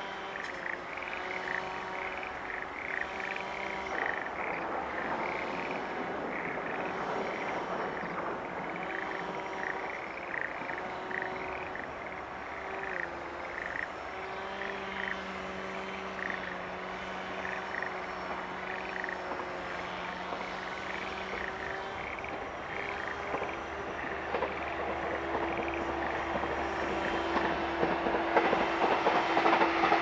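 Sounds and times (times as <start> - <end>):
frogs calling in pulsed notes: 0.0 - 29.6
low engine drone: 0.0 - 30.0.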